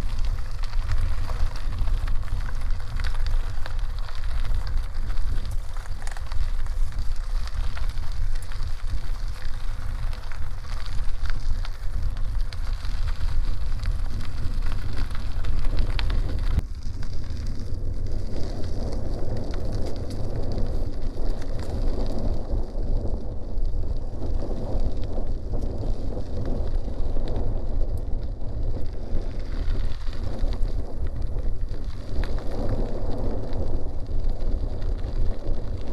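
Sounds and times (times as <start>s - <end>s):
bicycle tyres on gravel: 0.0s - 35.9s
wind rumbling on microphone: 0.0s - 35.9s.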